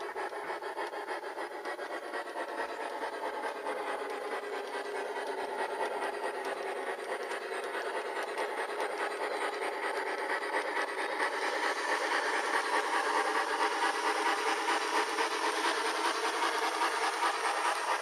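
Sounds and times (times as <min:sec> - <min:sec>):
model locomotive running on track: 0:00.0 - 0:18.0.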